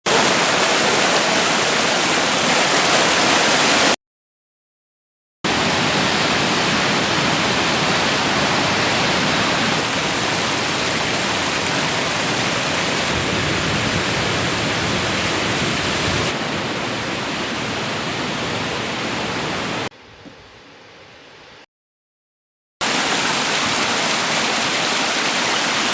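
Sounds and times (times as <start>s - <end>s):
rushing water: 0.1s - 4.0s, 5.5s - 19.9s, 22.8s - 25.9s.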